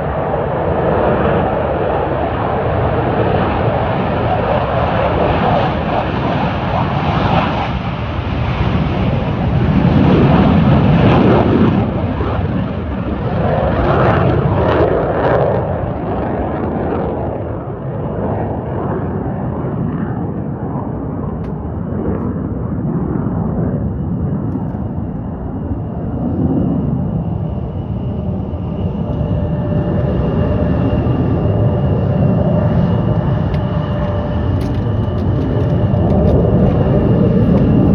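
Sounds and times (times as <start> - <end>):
jet aircraft taking off: 0.0 - 37.9.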